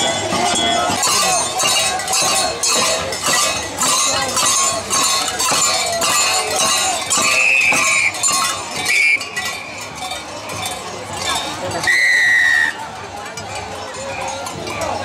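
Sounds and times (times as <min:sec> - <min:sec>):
crowd voices: 0:00.0 - 0:15.0
metal bells clanking: 0:00.0 - 0:15.0.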